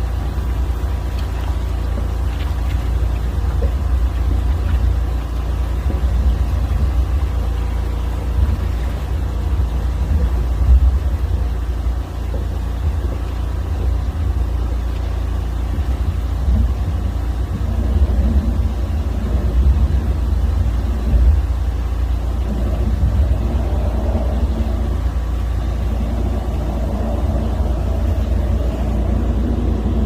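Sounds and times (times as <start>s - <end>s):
sewer jetting machine droning: 0.0s - 30.0s.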